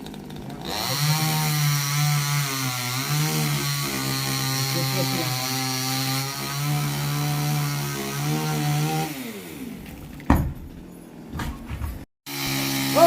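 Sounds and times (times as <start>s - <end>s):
chainsaw cutting wood: 0.0s - 10.3s, 12.2s - 13.0s.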